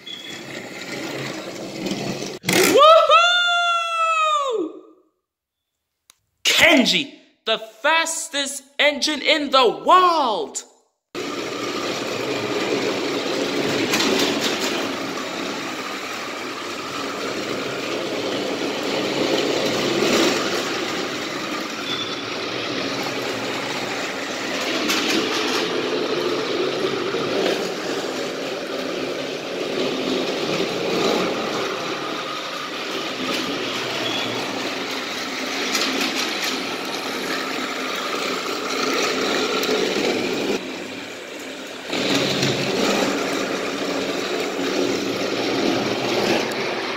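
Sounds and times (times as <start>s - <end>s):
wheels rattling on plastic track: 0.0s - 2.7s, 11.2s - 46.9s
toy train motors whirring: 0.0s - 2.8s, 11.2s - 46.9s.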